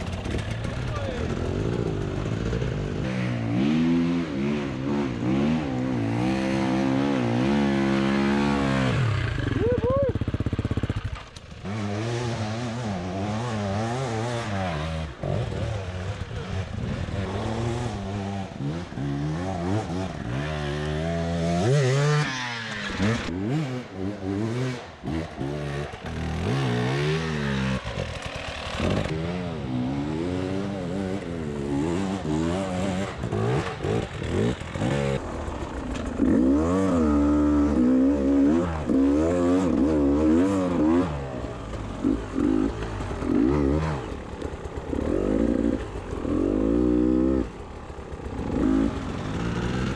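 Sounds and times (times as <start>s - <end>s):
motorbike engine revving: 0.0s - 49.9s.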